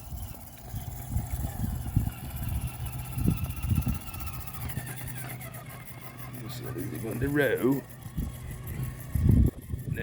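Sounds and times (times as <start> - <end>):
toy truck motor whining: 0.0 - 10.0.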